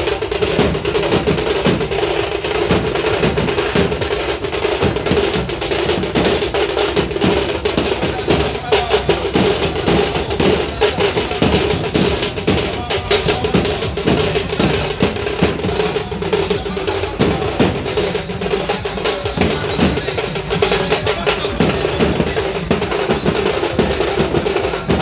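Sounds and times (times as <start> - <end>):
drummers beating large drums: 0.0 - 25.0.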